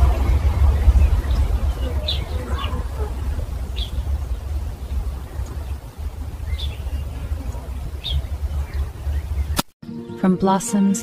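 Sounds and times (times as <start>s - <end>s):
low rumble and hiss: 0.0s - 9.6s
high bird chirps: 0.2s - 9.6s.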